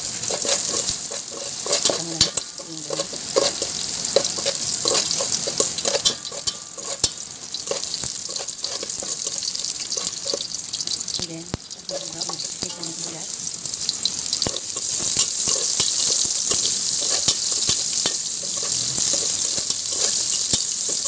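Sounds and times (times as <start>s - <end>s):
spatula scraping and tapping pot: 0.0s - 10.5s, 11.9s - 13.2s, 14.3s - 21.0s
garlic sizzling in hot oil: 0.0s - 21.0s.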